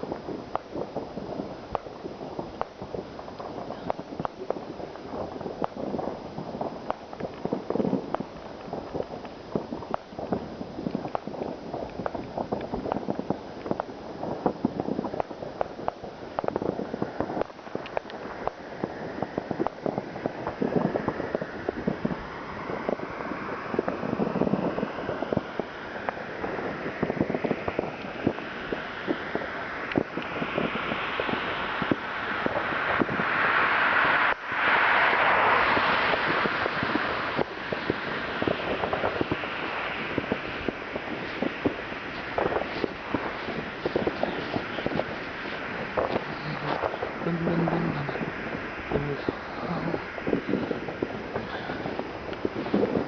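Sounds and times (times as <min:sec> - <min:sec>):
fireworks crackling and banging: 0:00.0 - 0:53.0
steady background rush: 0:00.0 - 0:53.0.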